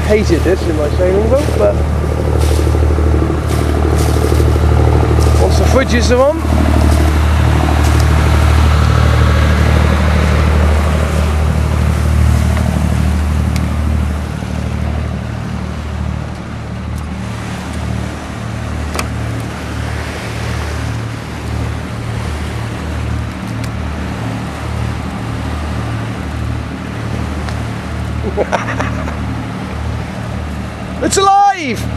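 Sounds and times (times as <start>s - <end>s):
motor boat engine droning: 0.0s - 31.9s
water washing along hull: 0.0s - 31.9s.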